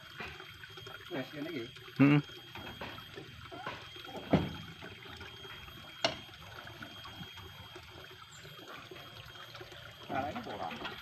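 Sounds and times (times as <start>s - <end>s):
water trickling in channel: 0.0s - 11.0s.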